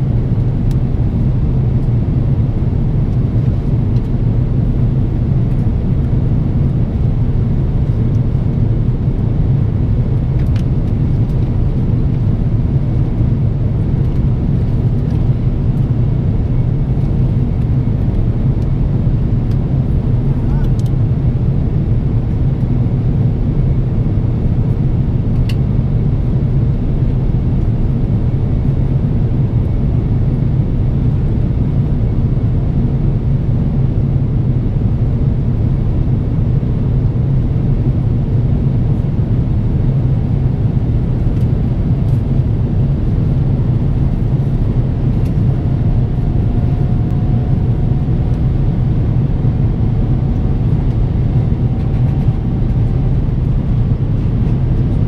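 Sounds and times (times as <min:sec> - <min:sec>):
aircraft engines droning: 0:00.0 - 0:55.0
airflow over fuselage: 0:00.0 - 0:55.0.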